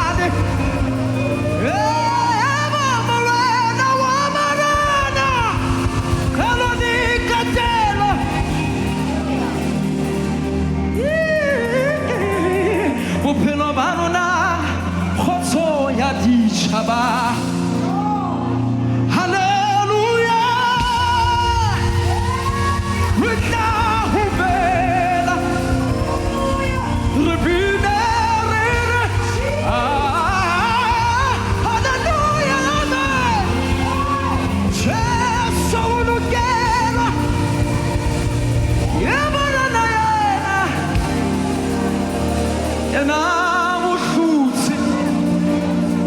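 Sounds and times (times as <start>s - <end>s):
sustained musical accompaniment: 0.0s - 46.0s.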